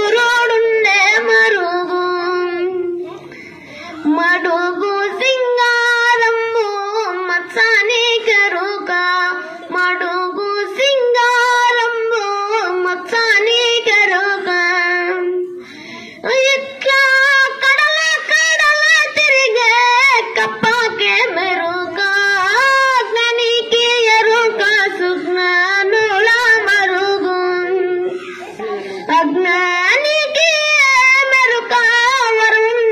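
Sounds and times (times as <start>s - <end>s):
boy singing: 0.0s - 32.9s.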